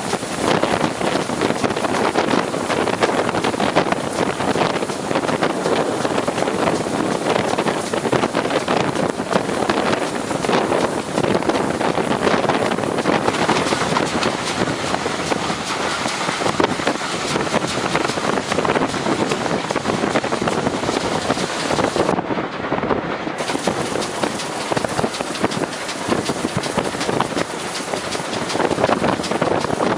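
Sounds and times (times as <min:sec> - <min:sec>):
train rumble and rattle: 0:00.0 - 0:29.9
wind on microphone: 0:00.0 - 0:29.9.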